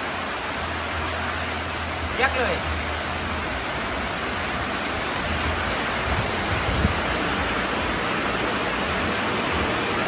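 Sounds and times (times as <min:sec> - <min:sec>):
heavy rain on a metal roof: 0:00.0 - 0:10.0.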